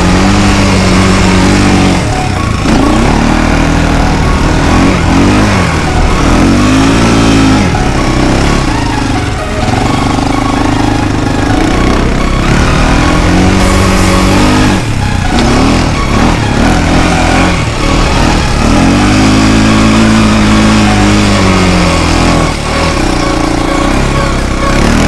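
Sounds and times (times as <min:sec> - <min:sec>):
quad engine revving: 0:00.0 - 0:25.0.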